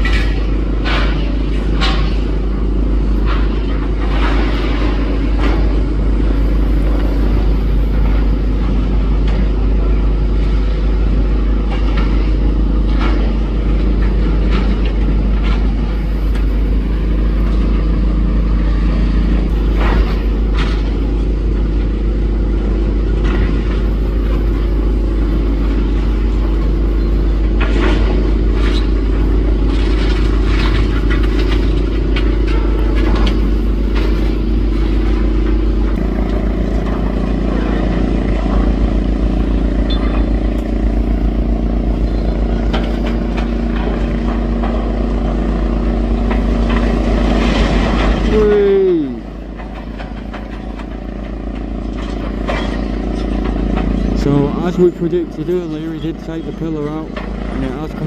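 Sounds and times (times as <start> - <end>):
debris clanking and crunching: 0.0 - 58.0
diesel engine running under load: 0.0 - 58.0.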